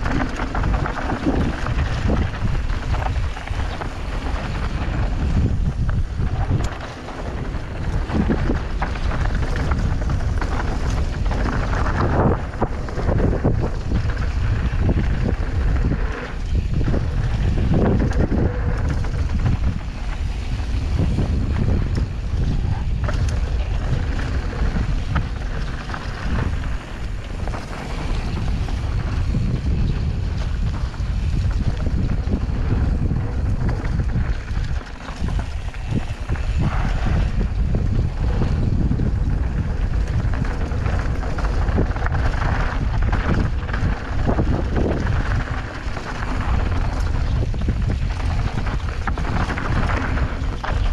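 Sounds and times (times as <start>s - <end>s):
bike rattling: 0.0s - 50.9s
tyres rumbling on dirt: 0.0s - 50.9s
wind buffeting microphone: 0.0s - 50.9s.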